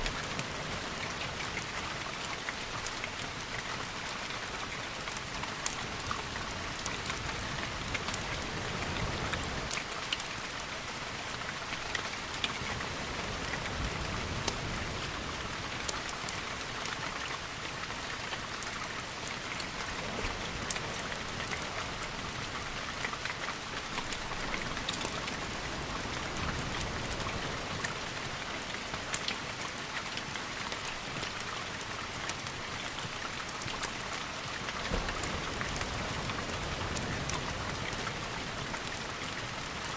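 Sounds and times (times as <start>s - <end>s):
steady rain with drop ticks: 0.0s - 39.9s.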